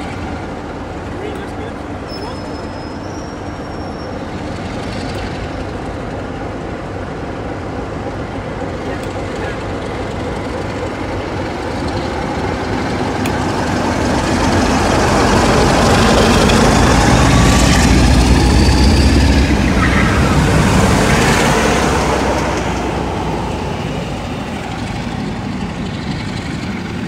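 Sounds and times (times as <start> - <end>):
train engine rumble: 0.0 - 27.0
train wheel noise: 0.0 - 27.0.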